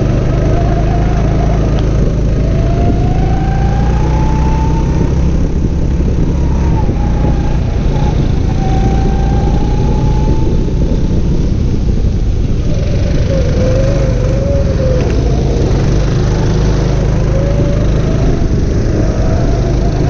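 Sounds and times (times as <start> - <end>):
heavy low rumble: 0.0 - 20.0
kart engine revving: 0.0 - 20.0.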